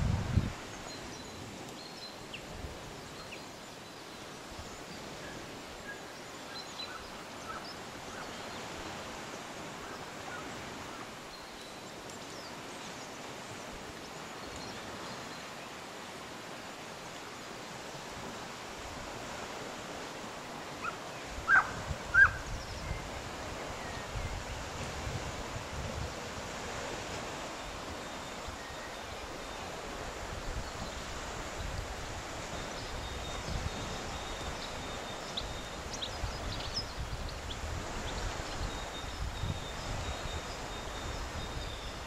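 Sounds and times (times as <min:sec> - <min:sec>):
sea surf: 0:00.0 - 0:42.0
wind: 0:00.0 - 0:42.0.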